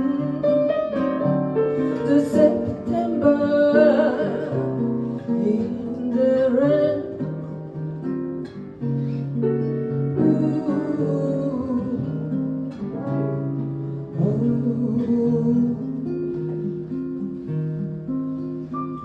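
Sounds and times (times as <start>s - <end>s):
acoustic guitar chords: 0.0s - 19.0s
pianica: 0.0s - 19.0s.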